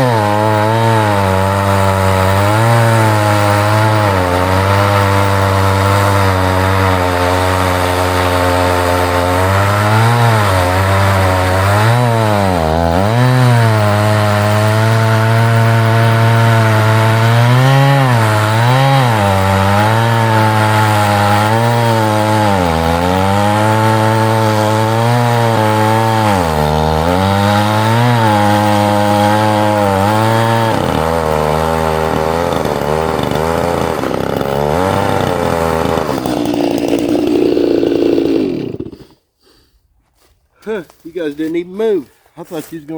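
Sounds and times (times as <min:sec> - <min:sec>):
chainsaw cutting log: 0:00.0 - 0:39.7.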